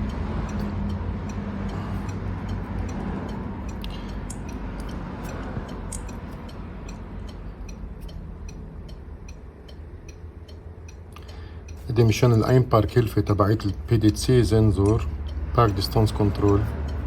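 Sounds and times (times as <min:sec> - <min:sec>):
hazard flasher ticking: 0:00.0 - 0:17.0
low steady hum: 0:00.0 - 0:17.0.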